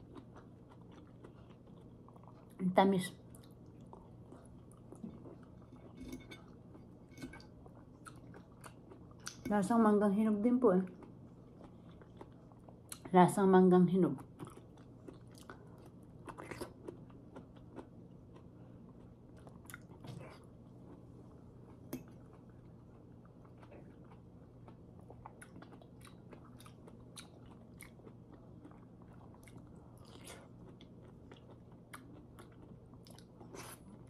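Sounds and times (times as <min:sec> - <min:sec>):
chewing soft fruit: 0:00.0 - 0:09.6, 0:10.4 - 0:13.1, 0:14.1 - 0:34.0
steady low hum: 0:00.0 - 0:34.0.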